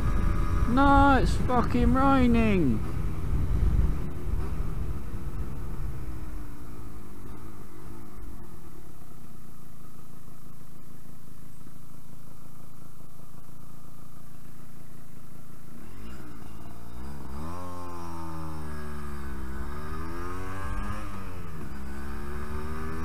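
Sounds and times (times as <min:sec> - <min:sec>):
motorcycle engine revving: 0:00.0 - 0:10.6, 0:14.4 - 0:23.0.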